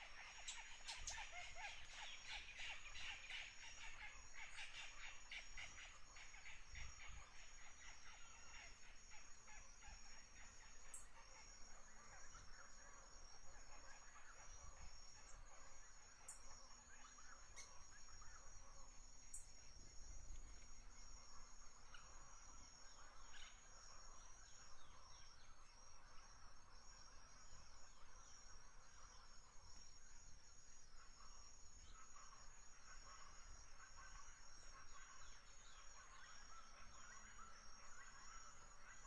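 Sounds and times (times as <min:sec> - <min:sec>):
faint high-pitched whine: 0:00.0 - 0:39.0.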